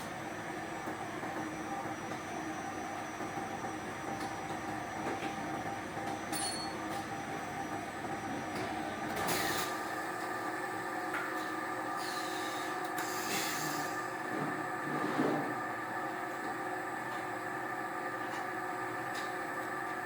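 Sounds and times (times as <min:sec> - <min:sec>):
industrial machinery humming: 0:00.0 - 0:20.0.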